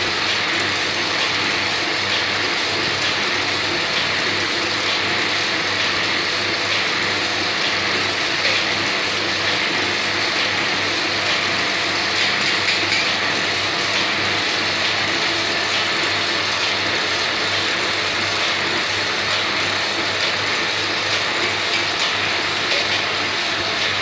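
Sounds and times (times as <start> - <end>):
printer whirring: 0.0 - 24.0.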